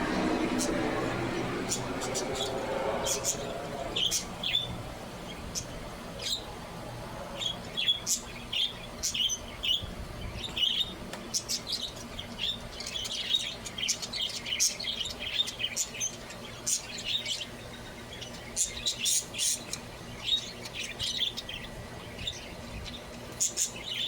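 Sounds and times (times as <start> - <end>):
budgerigars chirping: 0.0 - 6.5, 7.4 - 24.0.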